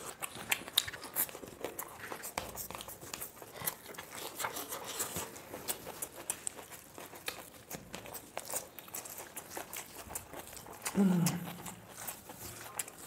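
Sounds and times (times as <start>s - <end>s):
chewing and mouth noises: 0.0s - 13.0s.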